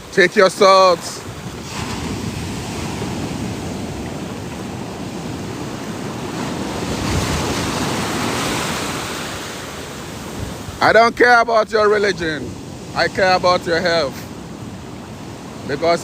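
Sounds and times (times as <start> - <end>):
ocean surf on a beach: 0.0 - 16.0
wind buffeting microphone: 0.8 - 16.0.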